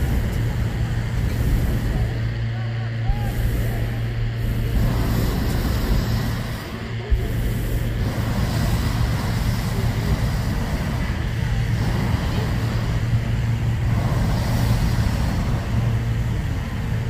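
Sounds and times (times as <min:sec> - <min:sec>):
engine running with low hum: 0:00.0 - 0:17.0.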